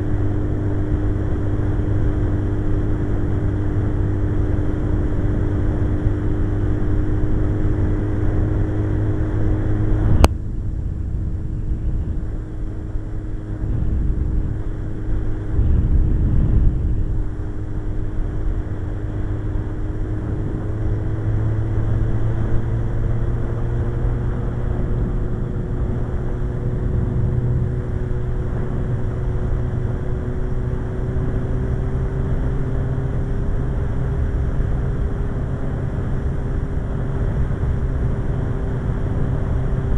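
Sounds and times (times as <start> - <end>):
motorcycle engine cruising: 0.0 - 39.9
wind rumble: 0.0 - 39.9.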